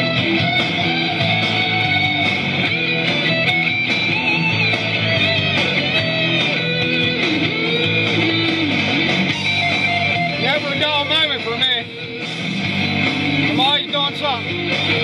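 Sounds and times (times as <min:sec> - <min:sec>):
rock song with electric guitar: 0:00.0 - 0:15.0.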